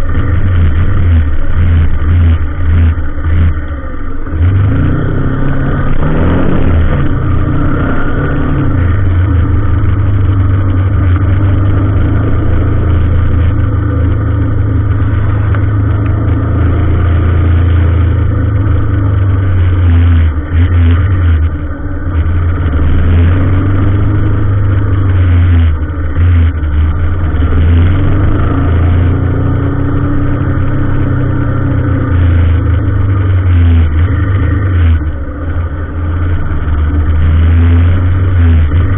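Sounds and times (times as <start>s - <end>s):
vehicle engine running loudly: 0.0s - 38.9s.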